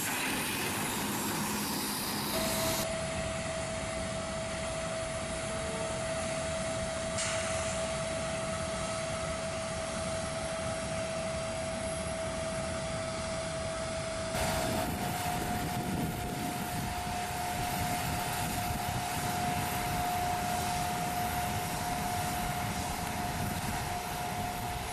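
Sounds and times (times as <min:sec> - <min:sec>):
jet airliner engine whine: 0:00.0 - 0:24.9.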